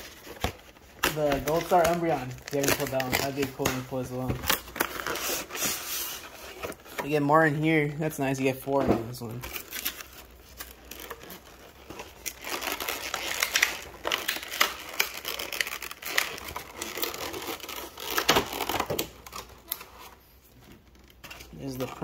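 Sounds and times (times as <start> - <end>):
plastic packaging crinkling: 0.0 - 7.4, 9.1 - 22.0.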